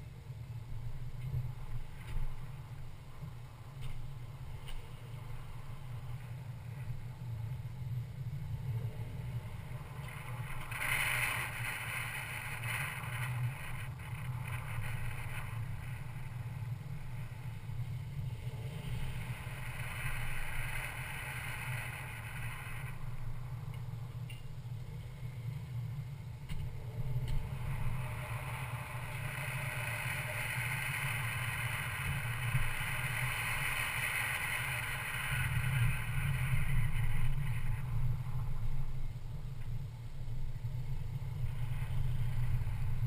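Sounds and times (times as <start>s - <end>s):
car driving slowly rumble: 0.0s - 43.0s
hiss: 8.2s - 43.0s.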